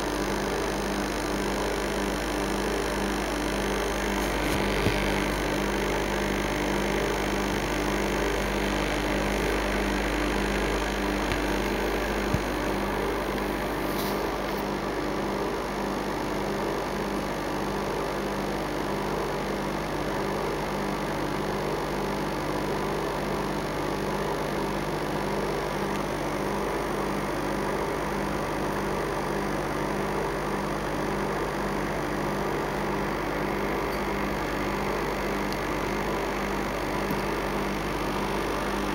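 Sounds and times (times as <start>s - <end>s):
pulsing electrical hum: 0.0s - 38.9s.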